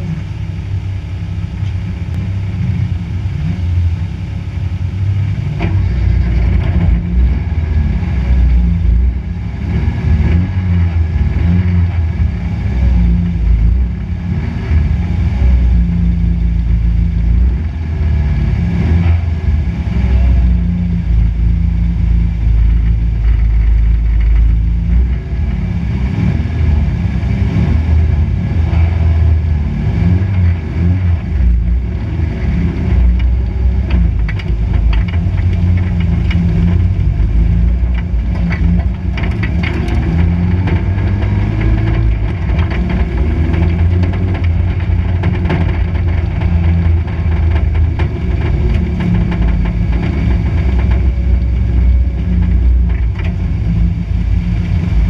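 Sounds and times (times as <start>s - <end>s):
race car engine idling: 0.0s - 55.0s.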